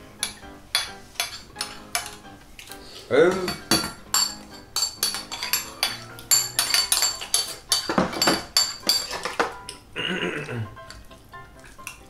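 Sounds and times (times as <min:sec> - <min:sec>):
spoons and chopsticks clinking bowls: 0:00.1 - 0:09.9, 0:11.6 - 0:12.0.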